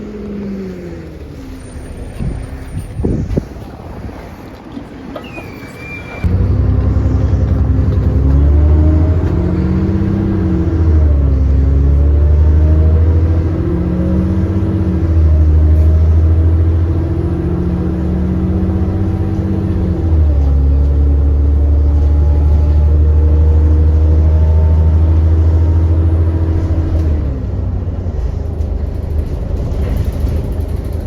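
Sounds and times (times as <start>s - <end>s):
bus engine droning under load: 0.0s - 31.0s.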